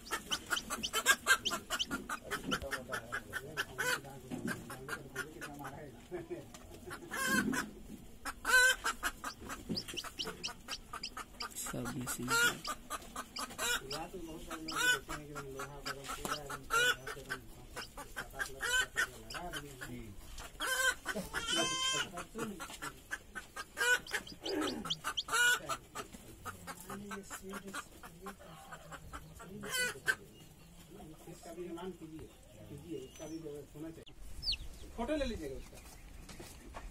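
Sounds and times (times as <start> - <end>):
chicks peeping: 0.0 - 36.9.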